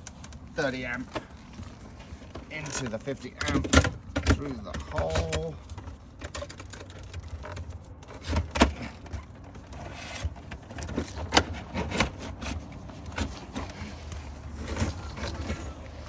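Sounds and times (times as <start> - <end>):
power cord rubbing and scraping: 0.0 - 16.0.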